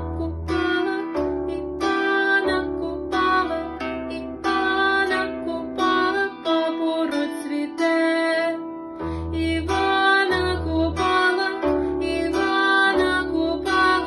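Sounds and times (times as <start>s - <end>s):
plucked string instrument melody: 0.0s - 14.0s.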